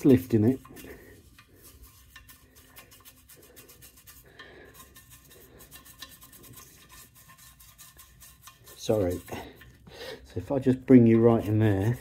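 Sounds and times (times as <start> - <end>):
brush scratching inside metal tip: 0.0 - 12.0.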